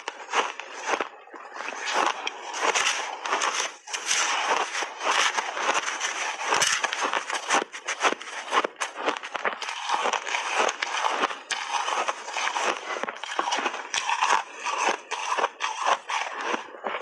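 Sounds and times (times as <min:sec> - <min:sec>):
spoon scraping shaved ice: 0:00.0 - 0:17.0.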